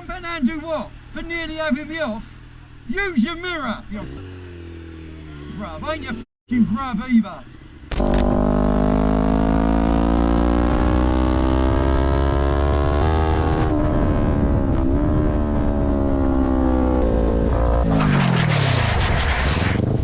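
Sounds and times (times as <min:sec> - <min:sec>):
motorcycle engine running: 0:00.0 - 0:06.2, 0:07.4 - 0:17.9.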